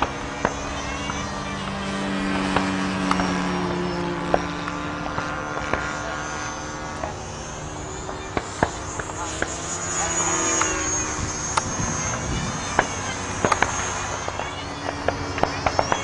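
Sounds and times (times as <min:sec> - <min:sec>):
model airplane buzzing drone: 0:00.0 - 0:16.0.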